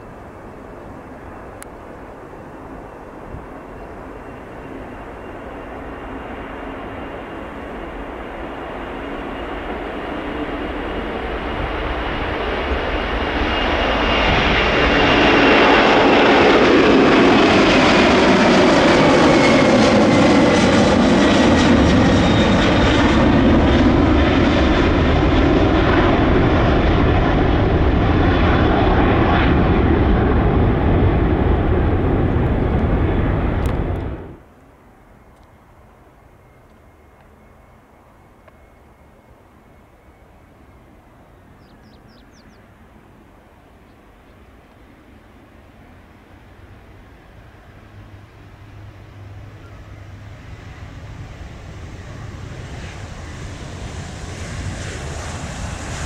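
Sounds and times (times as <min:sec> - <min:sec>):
high engine whine: 0:00.0 - 0:56.0
jet engines roaring at takeoff: 0:00.0 - 0:56.0.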